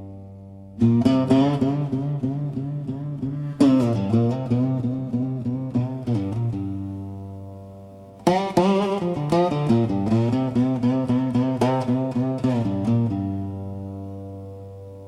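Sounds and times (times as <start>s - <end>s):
blues guitar with string bends: 0.0s - 15.0s.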